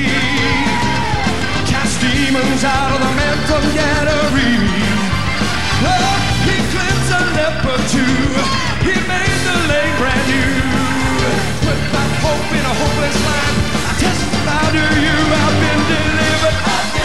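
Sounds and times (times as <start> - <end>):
band playing praise music: 0.0 - 17.0
many voices singing and shouting: 0.0 - 17.0.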